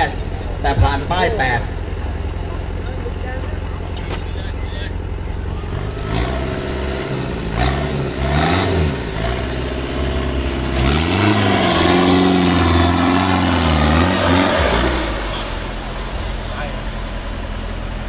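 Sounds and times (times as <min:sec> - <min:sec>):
buggy engine revving: 0:00.0 - 0:18.0.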